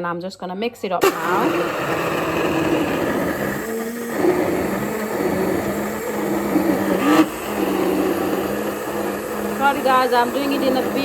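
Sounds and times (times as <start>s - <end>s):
stick blender motor running: 1.0s - 11.0s.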